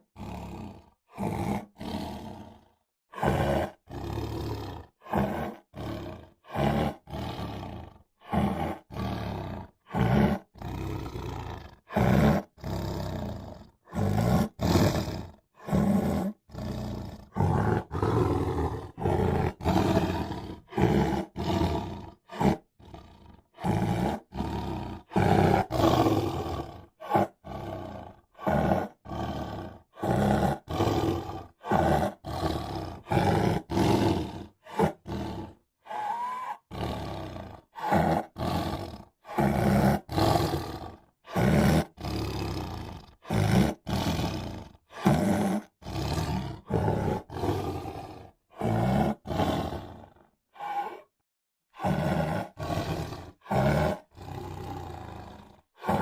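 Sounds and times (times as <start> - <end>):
tiger roaring: 0.0 - 51.1, 51.8 - 56.0.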